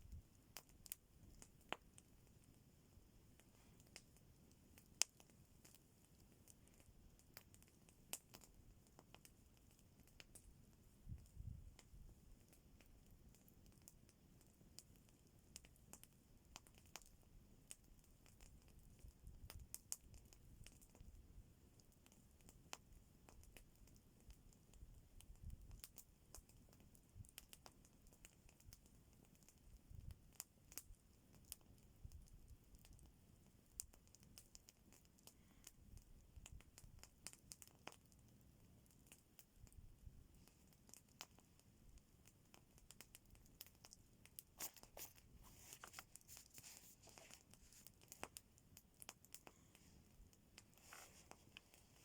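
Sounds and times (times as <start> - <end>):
faint irregular crackling: 0.0 - 52.0.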